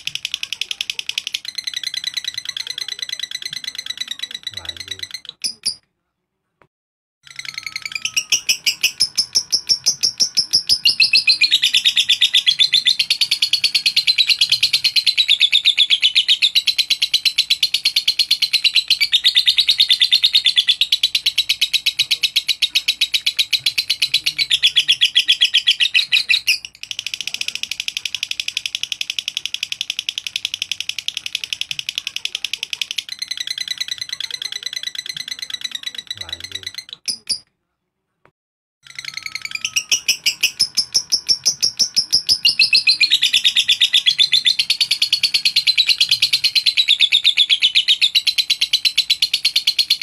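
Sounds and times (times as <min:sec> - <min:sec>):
lovebird chattering song: 0:00.0 - 0:05.8, 0:07.3 - 0:37.5, 0:38.9 - 0:50.0.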